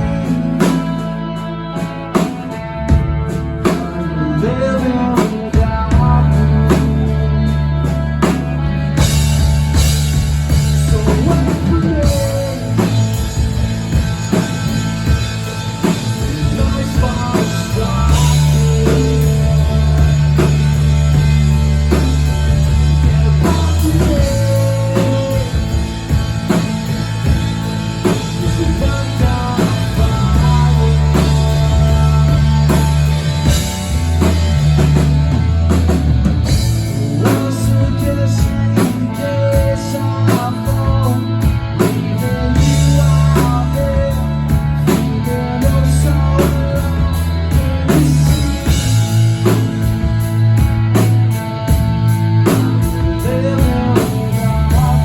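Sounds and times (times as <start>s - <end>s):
drum kit steady beat: 0.0s - 55.0s
live rock band playing: 0.0s - 55.0s.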